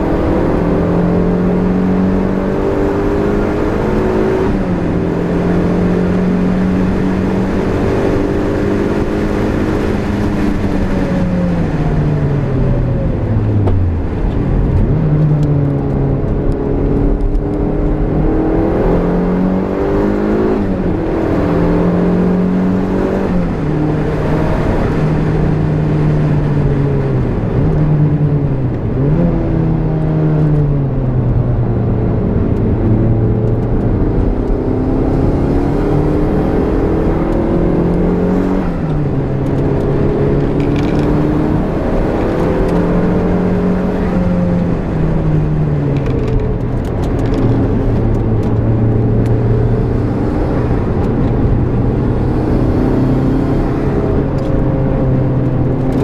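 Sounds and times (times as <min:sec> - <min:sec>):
car engine at speed: 0:00.0 - 0:56.0.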